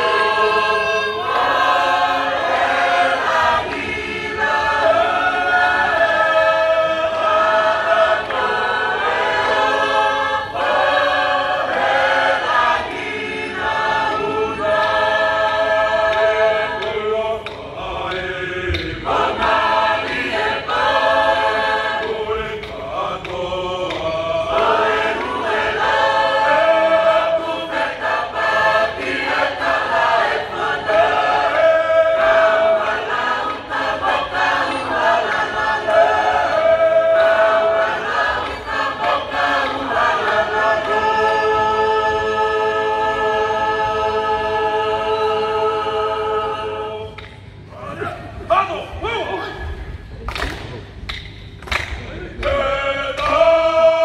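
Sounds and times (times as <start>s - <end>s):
choir singing long notes: 0.0s - 47.9s, 52.1s - 54.0s.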